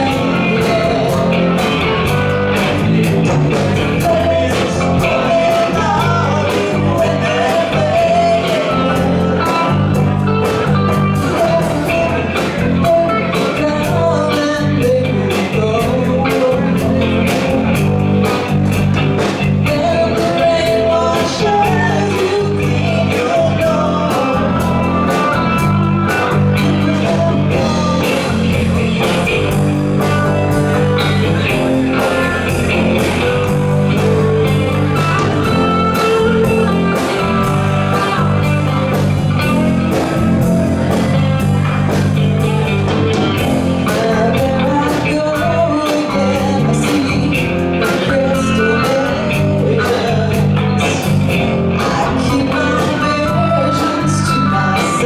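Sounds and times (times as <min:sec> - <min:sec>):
person singing: 0:00.0 - 0:18.6, 0:19.2 - 0:55.0
bass guitar: 0:00.0 - 0:55.0
drum kit: 0:00.0 - 0:55.0
electric guitars: 0:00.0 - 0:55.0.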